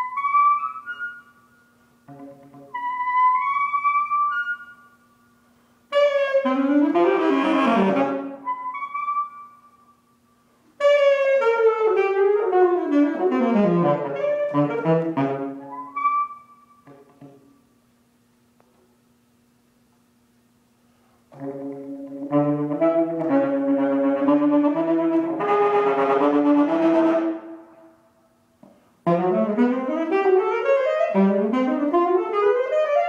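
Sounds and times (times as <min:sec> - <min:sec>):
alto saxophone playing: 0:00.0 - 0:10.0, 0:10.8 - 0:17.7, 0:21.3 - 0:28.2, 0:29.0 - 0:33.0.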